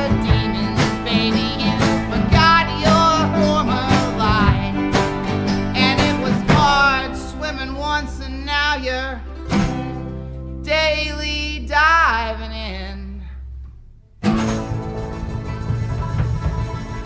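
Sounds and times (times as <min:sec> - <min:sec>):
folk-rock band music: 0:00.0 - 0:11.1, 0:14.2 - 0:17.0.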